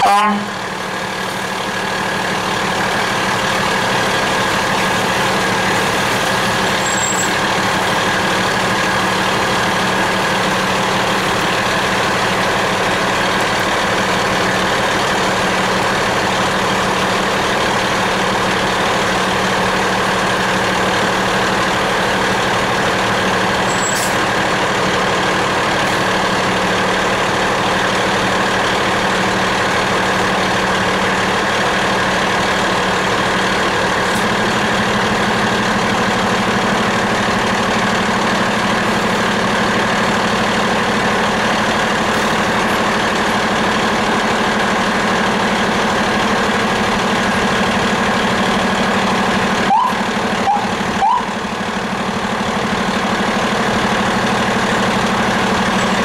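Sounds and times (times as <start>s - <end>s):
fire truck engine running: 0.0s - 56.0s.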